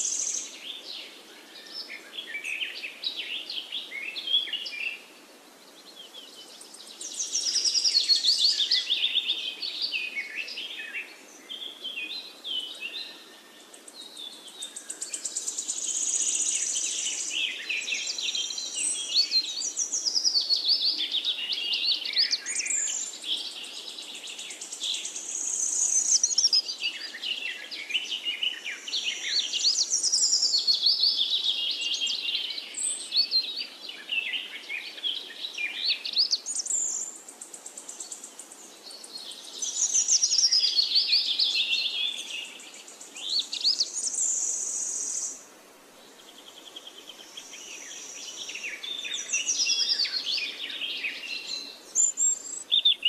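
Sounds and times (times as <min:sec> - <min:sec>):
birds chirping and singing: 0:00.0 - 0:05.1, 0:05.8 - 0:45.4, 0:46.1 - 0:53.0.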